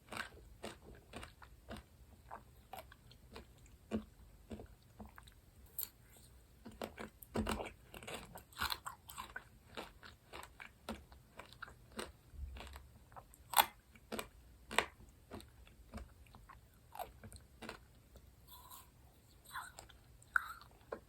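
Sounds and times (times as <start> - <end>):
chewing and crunching sweets: 0.0 - 21.0.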